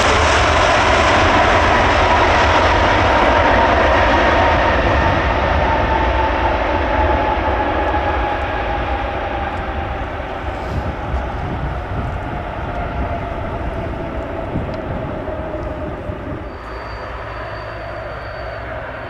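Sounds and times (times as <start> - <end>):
jet engine whine: 0.0 - 19.0
low rumble: 0.0 - 19.0.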